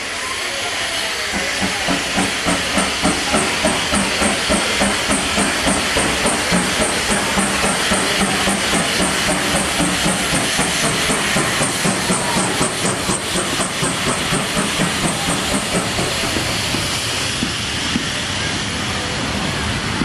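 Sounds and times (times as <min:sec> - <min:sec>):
steam hissing: 0:00.0 - 0:20.0
steam locomotive exhaust chuffing: 0:00.0 - 0:20.0.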